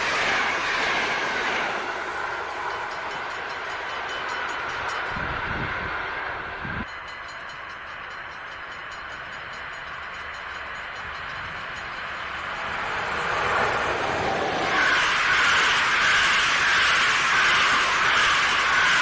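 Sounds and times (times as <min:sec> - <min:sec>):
passenger train approaching: 0:00.0 - 0:19.0.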